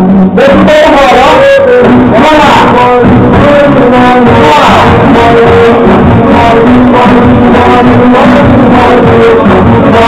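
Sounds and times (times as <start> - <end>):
loud dance music with brass: 0.0 - 10.0.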